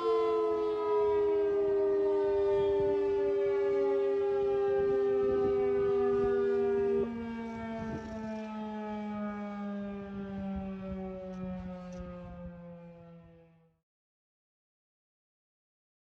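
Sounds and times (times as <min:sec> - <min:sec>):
civil defense siren winding down: 0:00.0 - 0:13.8.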